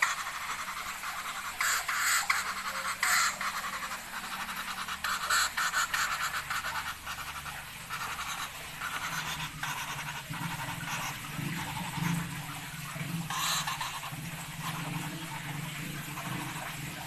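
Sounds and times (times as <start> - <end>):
woodpecker scratchy rattling: 0.0 - 17.0.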